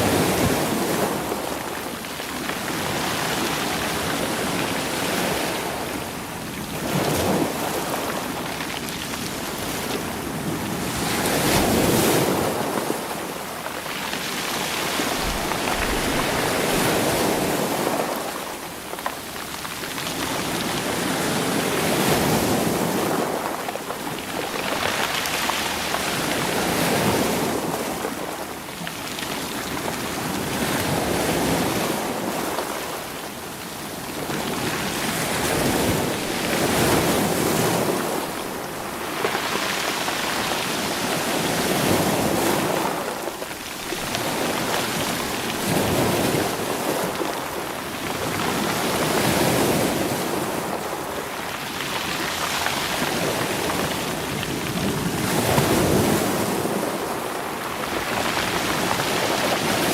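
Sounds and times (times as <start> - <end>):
waves rolling stones on shore: 0.0 - 59.9.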